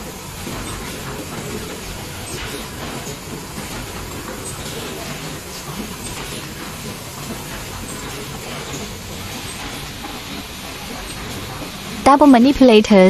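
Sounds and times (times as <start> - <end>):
machine hiss and rumble: 0.0 - 13.0.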